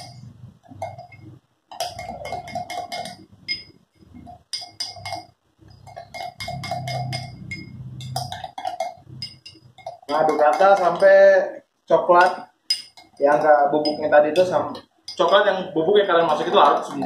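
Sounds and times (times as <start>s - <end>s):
metal spoon clinking in a glass: 0.0s - 11.2s, 12.2s - 15.5s.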